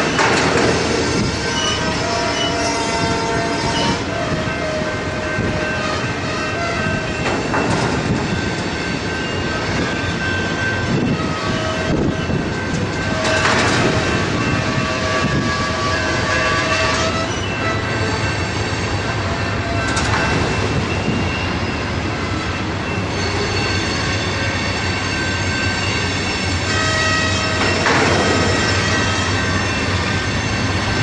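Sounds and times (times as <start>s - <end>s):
rail squealing: 0.0s - 31.0s
train cars clattering over track: 0.0s - 31.0s.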